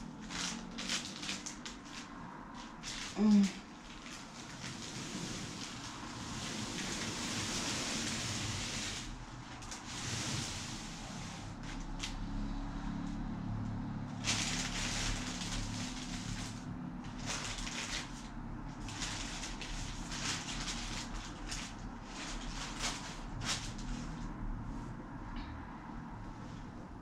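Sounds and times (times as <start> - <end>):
plastic bag rustling: 0.0 - 12.2, 14.2 - 24.3.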